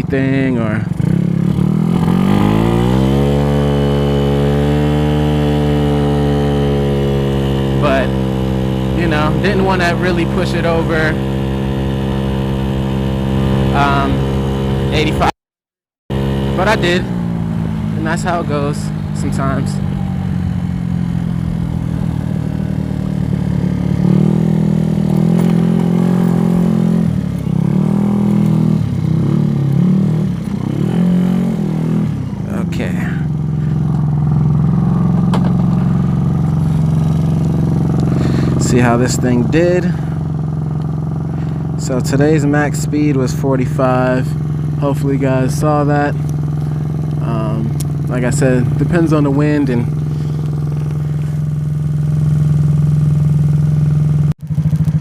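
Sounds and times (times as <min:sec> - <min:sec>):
scooter engine revving: 0:00.0 - 0:15.4, 0:16.1 - 0:55.0.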